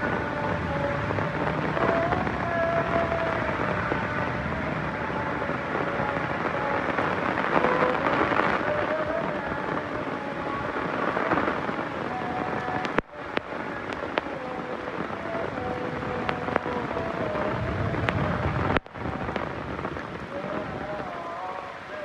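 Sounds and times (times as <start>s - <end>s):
low thunder rumble: 0.0s - 12.8s, 14.8s - 21.1s
heavy rain: 0.0s - 22.0s.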